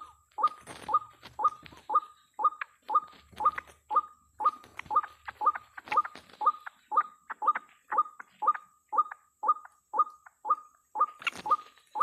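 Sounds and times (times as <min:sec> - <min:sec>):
bird croaking calls: 0:00.0 - 0:12.0.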